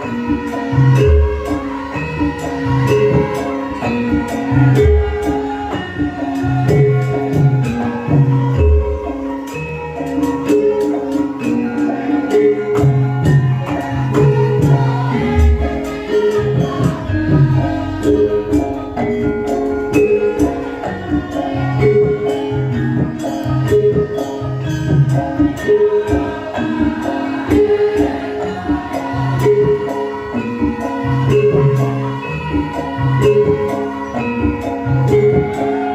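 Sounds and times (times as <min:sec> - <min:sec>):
drums and light percussion: 0:00.0 - 0:35.9
melodic instrumental notes: 0:00.0 - 0:35.9.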